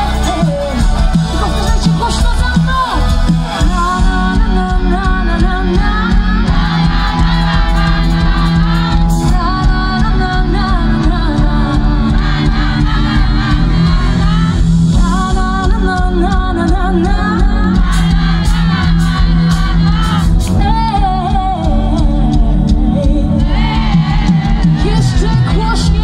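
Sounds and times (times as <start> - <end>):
live pop band with dance beat: 0.0 - 26.0
woman singing into microphone: 0.0 - 26.0.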